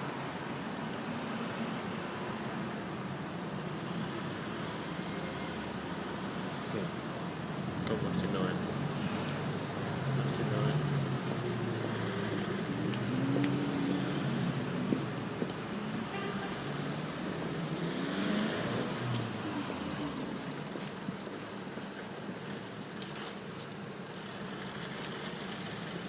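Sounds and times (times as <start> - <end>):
traffic: 0.0 - 26.0.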